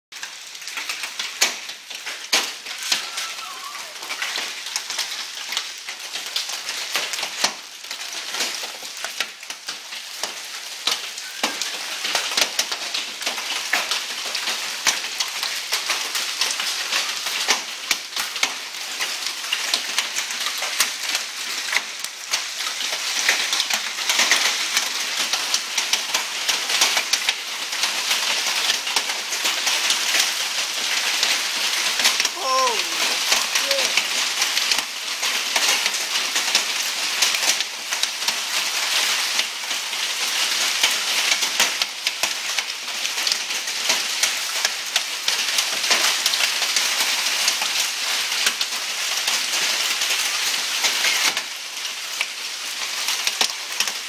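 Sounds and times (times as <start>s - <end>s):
hailstones clicking on hard surfaces: 0.1s - 54.0s
hailstones pelting down: 0.2s - 54.0s.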